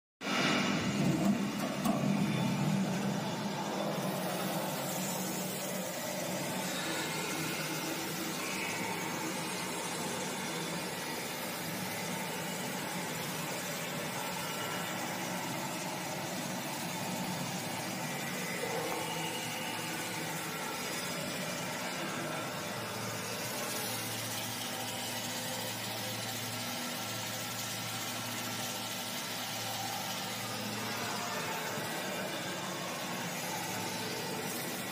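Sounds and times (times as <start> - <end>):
pulping machine running: 0.2 - 34.9.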